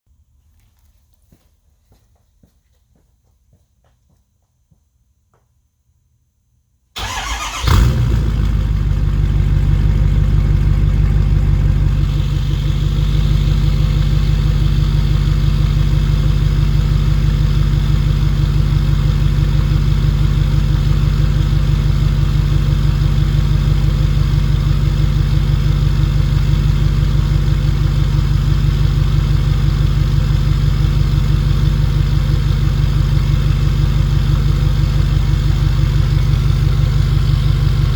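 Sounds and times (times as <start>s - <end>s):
diesel engine starting and idling: 7.0s - 37.9s.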